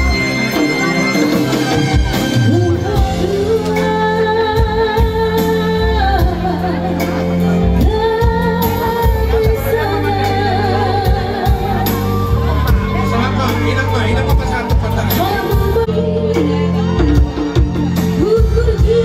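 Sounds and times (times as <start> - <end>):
steady bass accompaniment: 0.0 - 19.0.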